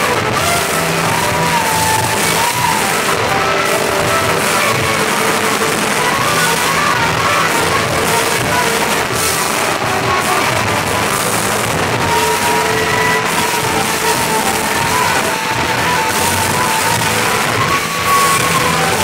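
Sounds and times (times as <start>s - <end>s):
electric guitar: 0.0s - 19.0s
keyboard: 0.0s - 19.0s
live band playing: 0.0s - 19.0s.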